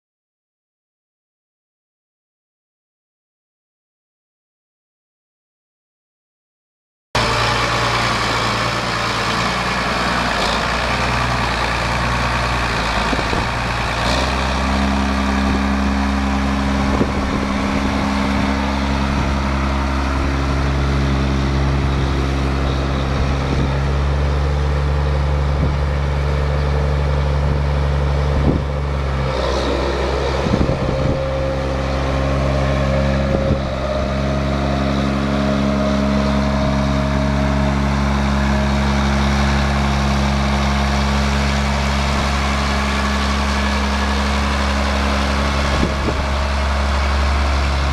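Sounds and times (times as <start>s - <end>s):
tractor diesel engine idling: 7.2s - 47.9s.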